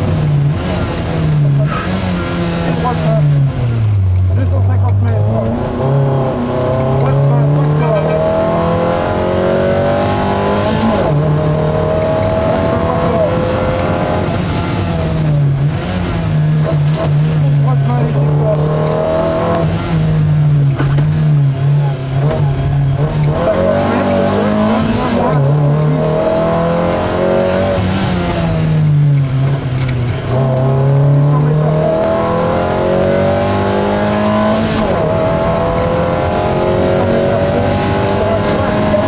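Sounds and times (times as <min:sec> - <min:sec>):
car engine revving hard: 0:00.0 - 0:39.0.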